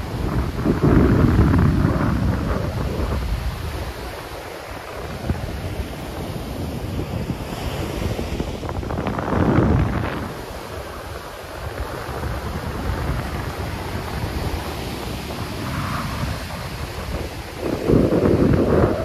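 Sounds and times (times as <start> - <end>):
steady rushing noise: 0.0 - 19.0
wind buffeting the microphone: 0.0 - 19.0.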